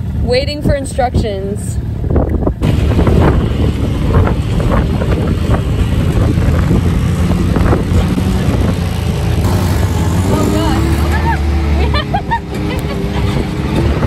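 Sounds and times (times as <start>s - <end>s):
off-road vehicle engine running: 0.0s - 14.0s
wind buffeting microphone: 0.0s - 14.0s.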